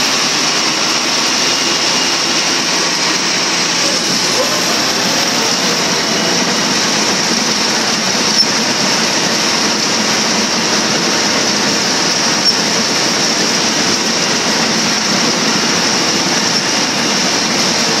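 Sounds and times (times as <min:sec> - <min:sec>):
bulldozer diesel engine running: 0:00.0 - 0:18.0
mechanical clatter: 0:00.0 - 0:18.0.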